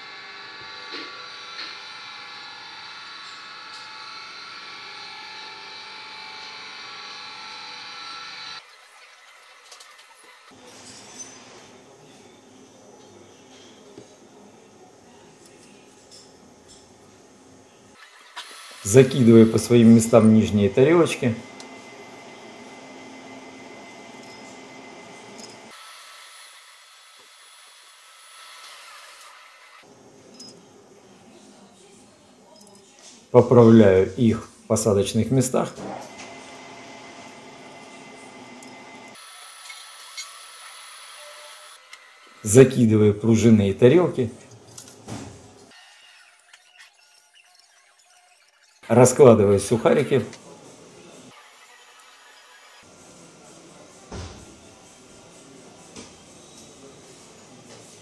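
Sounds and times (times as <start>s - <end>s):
workshop hiss and hum: 0.0s - 31.3s, 33.4s - 58.0s.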